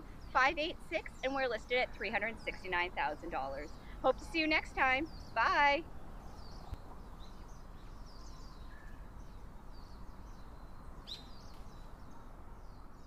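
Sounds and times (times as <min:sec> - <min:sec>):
birds chirping: 0:00.0 - 0:13.0
steady outdoor hiss: 0:00.0 - 0:13.0.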